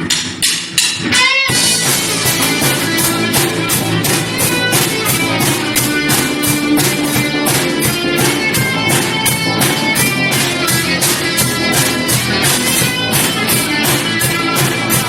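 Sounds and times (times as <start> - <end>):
drums: 0.0 - 15.0
electric guitar: 1.0 - 15.0.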